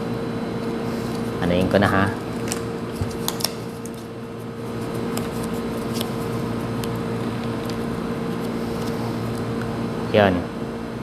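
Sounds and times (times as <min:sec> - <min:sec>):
appliance hum: 0:00.0 - 0:11.0.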